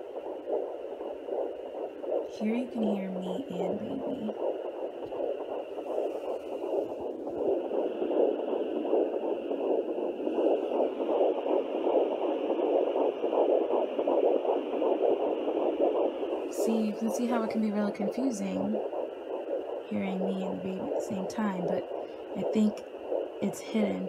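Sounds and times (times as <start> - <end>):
doppler heartbeat pulsing: 0.0 - 24.0.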